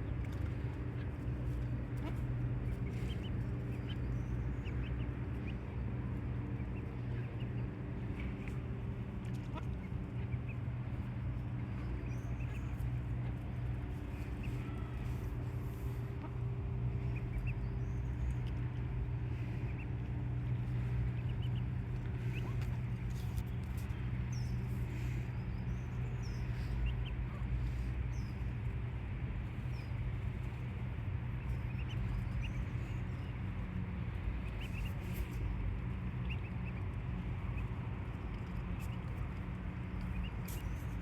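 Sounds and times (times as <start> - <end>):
steady low hum: 0.0 - 41.0
ducklings peeping: 0.1 - 41.0.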